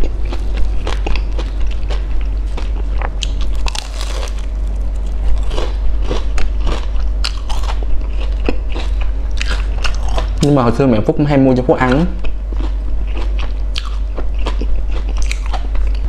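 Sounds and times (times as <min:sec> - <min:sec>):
crunching and chewing fried snack: 0:00.0 - 0:10.5, 0:12.2 - 0:16.0.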